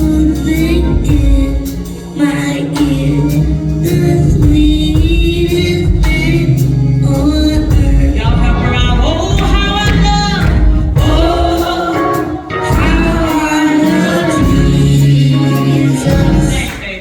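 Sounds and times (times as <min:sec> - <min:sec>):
bass and drums: 0:00.0 - 0:17.0
gospel choir singing: 0:00.0 - 0:17.0.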